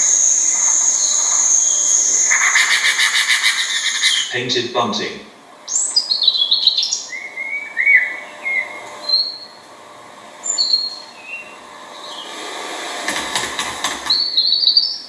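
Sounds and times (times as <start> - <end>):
bird singing: 0.0 - 9.8, 10.4 - 12.4, 14.0 - 15.0.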